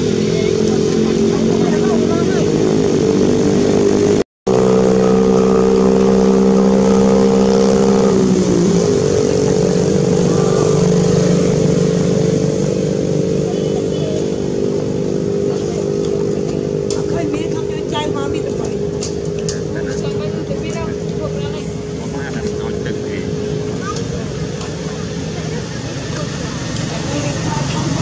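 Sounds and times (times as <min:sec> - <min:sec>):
motor engine running: 0:00.0 - 0:28.0.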